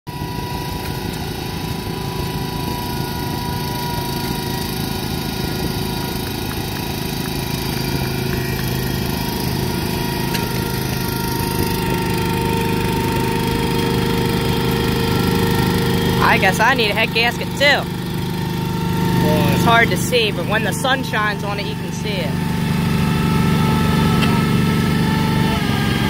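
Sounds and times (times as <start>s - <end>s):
small engine running under load: 0.1s - 26.0s.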